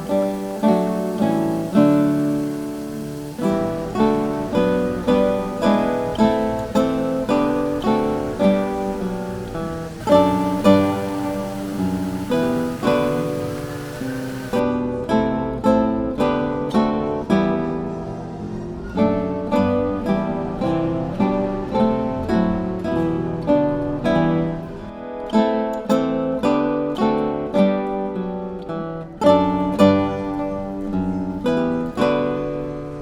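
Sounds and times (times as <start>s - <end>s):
acoustic guitar carol: 0.0s - 33.0s.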